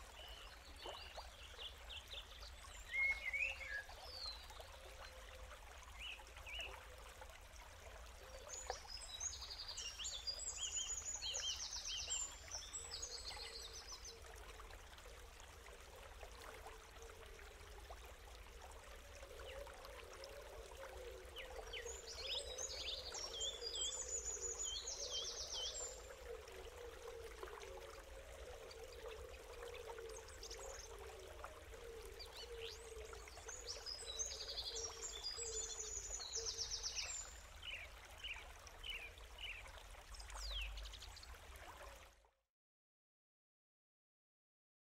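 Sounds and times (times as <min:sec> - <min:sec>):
running water: 0:00.0 - 0:42.3.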